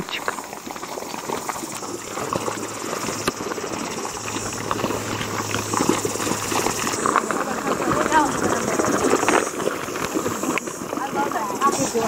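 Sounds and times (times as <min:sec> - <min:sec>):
mud pool bubbling and popping: 0:00.0 - 0:12.0.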